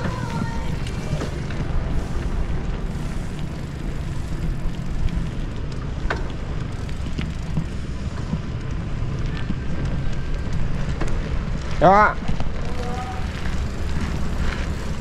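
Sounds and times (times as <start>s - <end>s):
bicycle tyres rolling on concrete: 0.0s - 15.0s
wind buffeting microphone: 0.0s - 15.0s.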